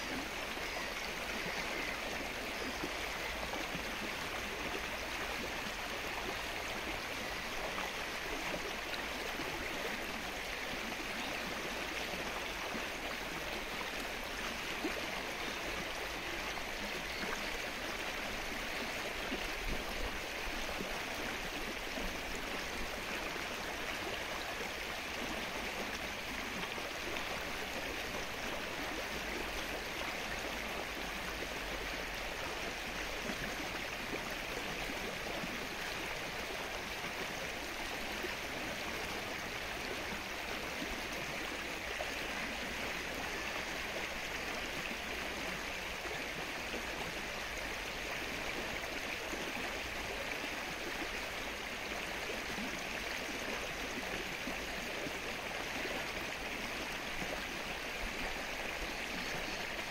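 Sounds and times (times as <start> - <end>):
rain falling on water: 0.0 - 59.9.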